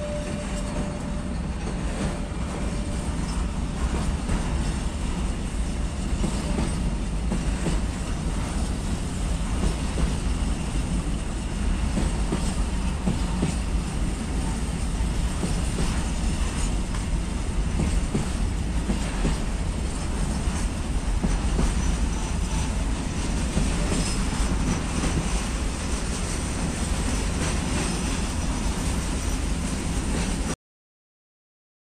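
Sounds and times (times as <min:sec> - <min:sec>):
wheels clicking on rails: 0:00.0 - 0:30.5
freight train wagons rolling past: 0:00.0 - 0:30.6.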